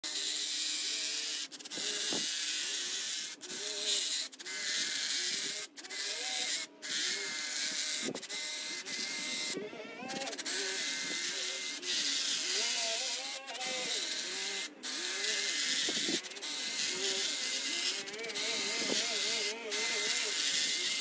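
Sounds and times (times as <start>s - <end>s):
hedge trimmer buzzing: 0.0s - 21.0s.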